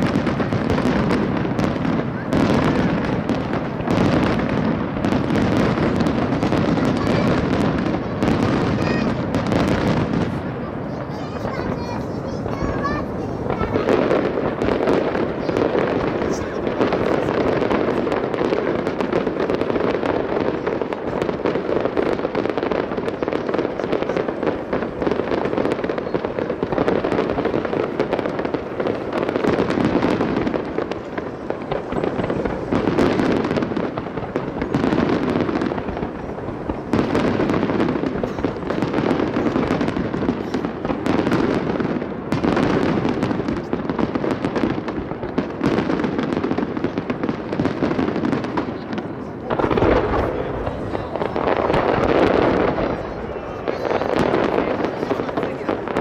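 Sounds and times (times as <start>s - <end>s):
fireworks booms and crackles: 0.0s - 56.0s.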